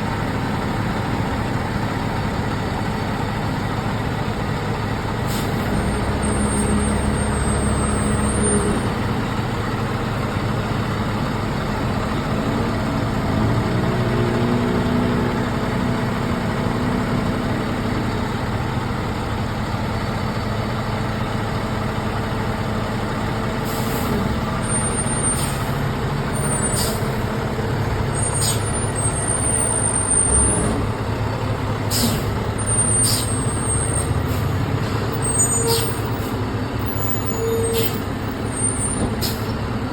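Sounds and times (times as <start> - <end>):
fire truck engine running: 0.0 - 39.9.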